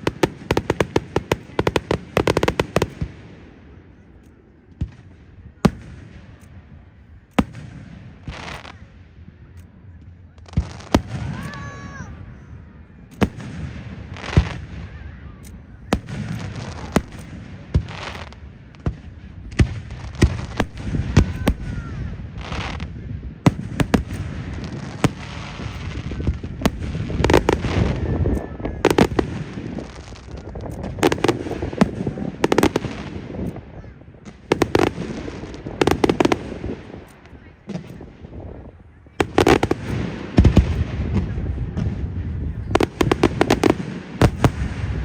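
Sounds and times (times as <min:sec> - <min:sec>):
fireworks bangs: 0:00.0 - 0:45.0
fireworks crackling: 0:00.0 - 0:45.0.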